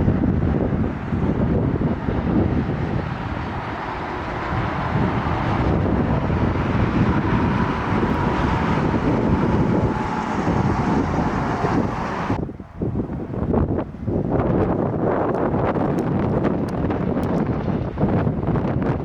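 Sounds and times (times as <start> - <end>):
highway traffic passing: 0.0 - 18.6
faint vehicle whine: 0.0 - 18.9
wind buffeting microphone: 0.0 - 19.0.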